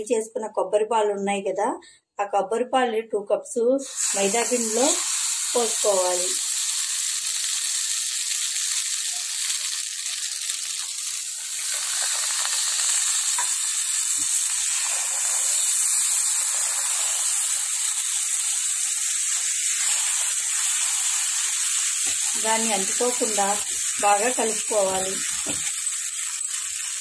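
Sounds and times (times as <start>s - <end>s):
sizzling in a hot pan: 3.8s - 27.0s.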